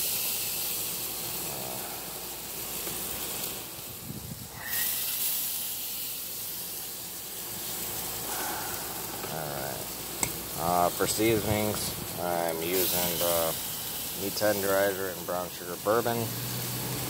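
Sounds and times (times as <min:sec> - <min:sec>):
chicken sizzling on grill: 0:00.0 - 0:17.0.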